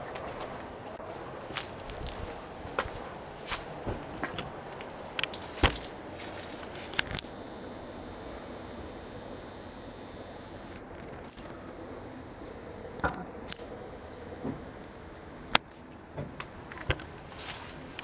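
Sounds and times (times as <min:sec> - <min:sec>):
insects trilling high: 0:00.0 - 0:18.0
lower insect trill: 0:00.0 - 0:18.0.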